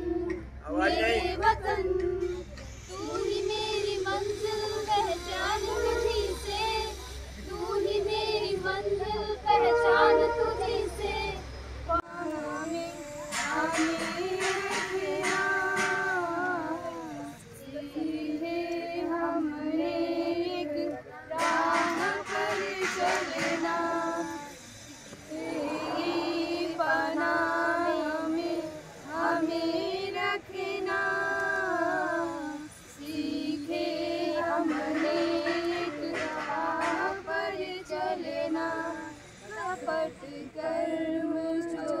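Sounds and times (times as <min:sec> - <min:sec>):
young women singing together: 0:00.0 - 0:42.0.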